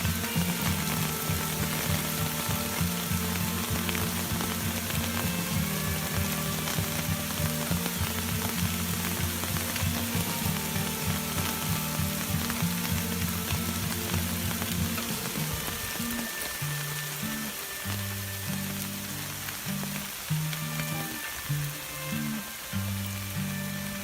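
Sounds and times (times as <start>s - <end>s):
background music with beat: 0.0s - 24.0s
heavy rain hissing: 0.0s - 24.0s.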